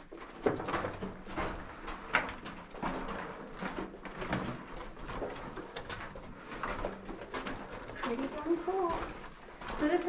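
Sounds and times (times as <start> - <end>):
footsteps on loose rock: 0.0 - 10.0.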